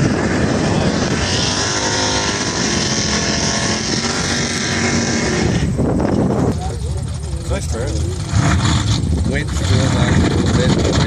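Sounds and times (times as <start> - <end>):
race car engines running: 0.0 - 11.0
steady rushing noise: 0.0 - 11.0.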